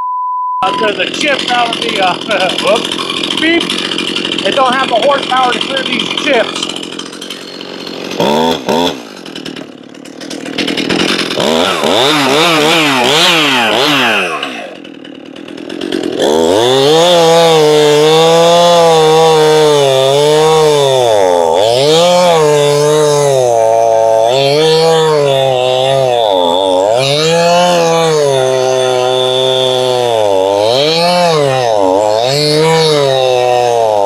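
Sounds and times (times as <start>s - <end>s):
chainsaw revving and cutting log: 0.6s - 34.0s.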